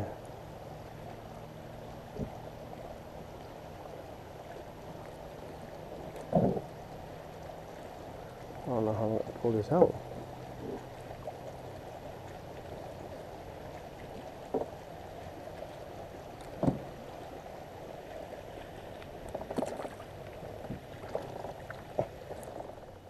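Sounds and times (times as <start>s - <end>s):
water lapping against a boat: 0.0s - 23.0s.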